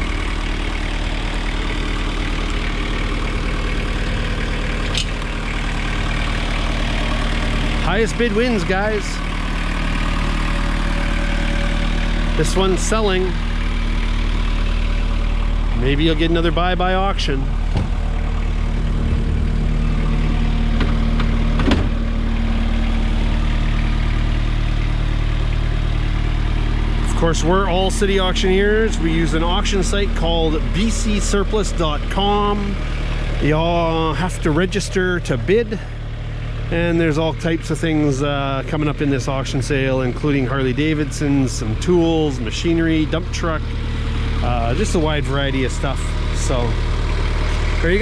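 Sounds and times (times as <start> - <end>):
diesel mower engine running: 0.0 - 48.0.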